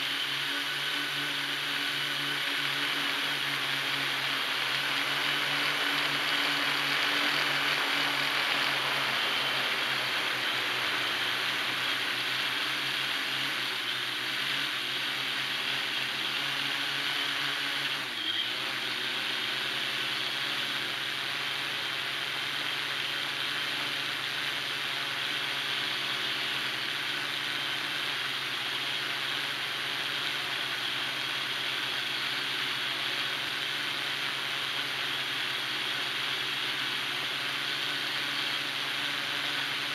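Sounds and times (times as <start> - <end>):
drone motors and propellers whirring: 0.0 - 39.9.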